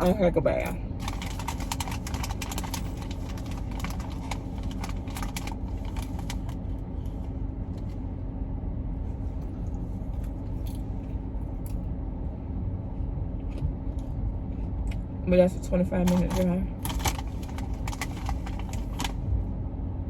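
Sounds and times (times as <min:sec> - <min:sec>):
car interior rumble: 0:00.0 - 0:20.0.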